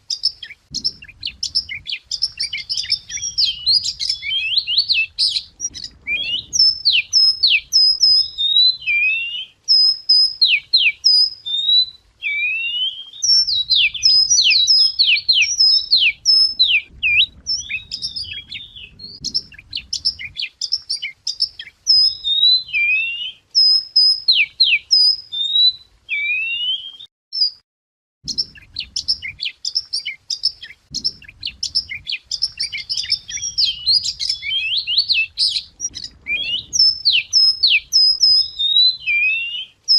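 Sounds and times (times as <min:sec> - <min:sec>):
wagtail singing whistled phrases: 0:00.0 - 0:27.6, 0:28.3 - 0:39.9.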